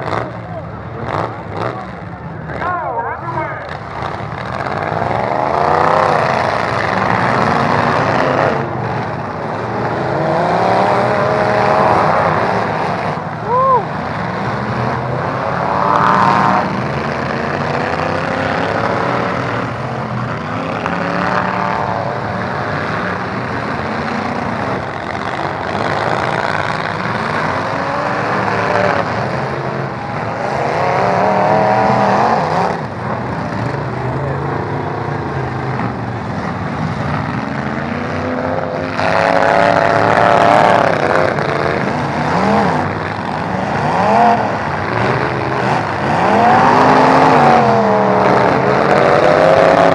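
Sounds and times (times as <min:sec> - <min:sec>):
truck engines revving: 0:00.0 - 0:49.9.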